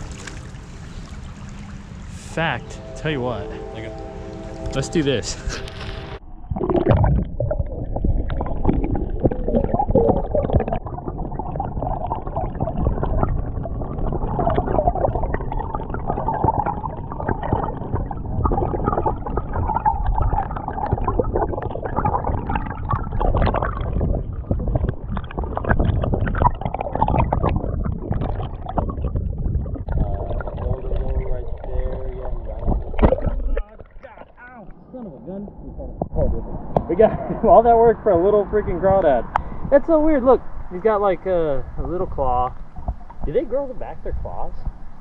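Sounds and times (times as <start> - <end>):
underwater creek rushing and gurgling: 0.0 - 45.0.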